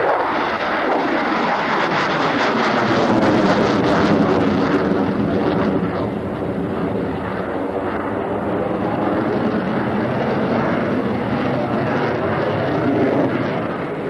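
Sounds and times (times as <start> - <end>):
fighter jet engine rumble: 0.0 - 14.0.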